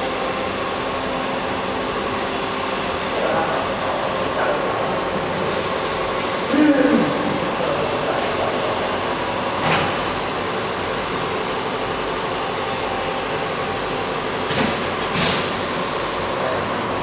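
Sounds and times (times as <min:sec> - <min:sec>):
mechanical running noise with hum: 0:00.0 - 0:17.0.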